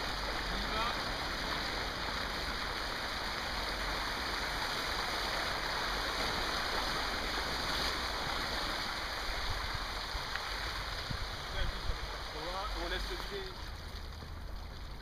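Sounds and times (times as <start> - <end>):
river rushing over a drop: 0.0 - 13.8.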